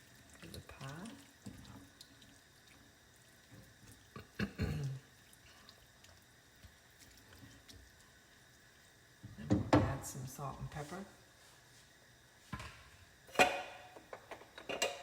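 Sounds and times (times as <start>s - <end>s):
broth bubbling in a pan: 0.0s - 14.2s.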